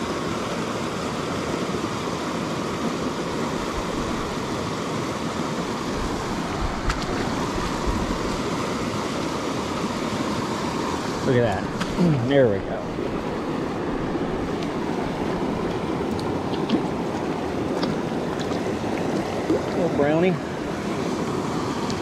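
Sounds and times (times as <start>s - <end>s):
creek rushing over rocks: 0.0s - 22.0s.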